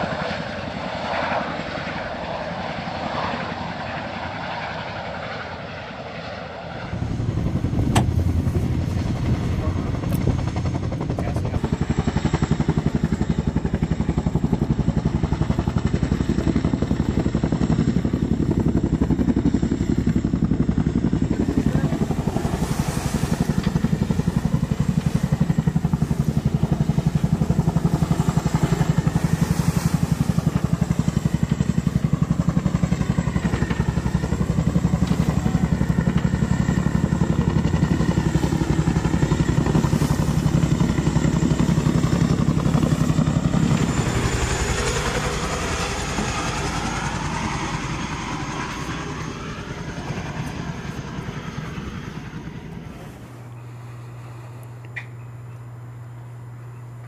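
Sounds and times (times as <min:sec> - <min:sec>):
engine whine: 0:00.0 - 0:57.0
helicopter rotor thumping: 0:06.5 - 0:53.2.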